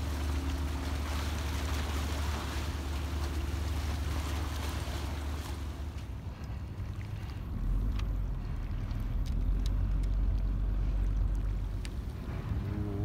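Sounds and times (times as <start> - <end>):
boat engine droning: 0.0 - 13.0
rippling sea water: 0.0 - 13.0.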